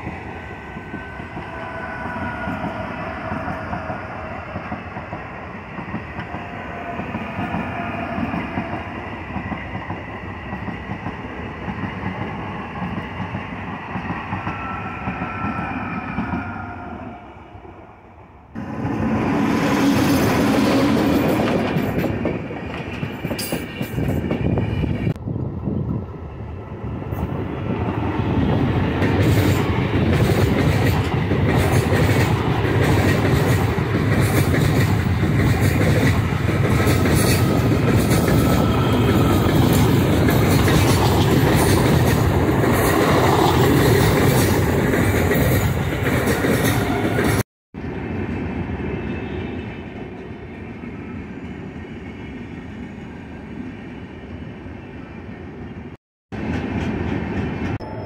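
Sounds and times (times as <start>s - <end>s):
train wheels rumbling on rails: 0.0s - 17.8s, 18.5s - 53.2s, 56.4s - 58.0s.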